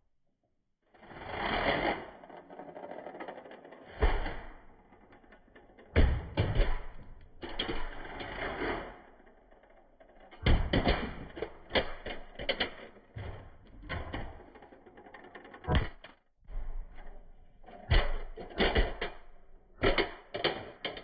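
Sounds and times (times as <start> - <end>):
toy cars clattering on carpet: 1.7 - 16.2, 17.0 - 21.0.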